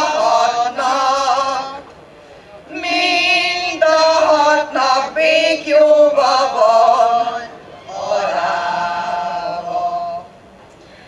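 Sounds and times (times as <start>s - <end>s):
women's choir singing unaccompanied: 0.0s - 1.9s, 2.7s - 10.4s.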